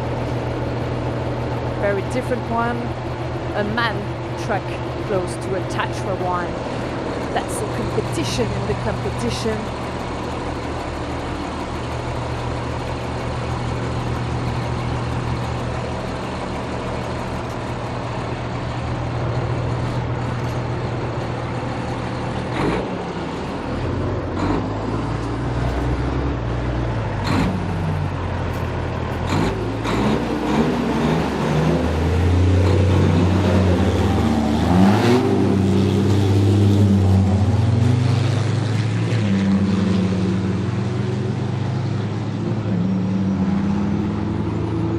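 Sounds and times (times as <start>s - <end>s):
truck diesel engines running: 0.0s - 44.9s
truck revving and moving off: 0.0s - 44.9s.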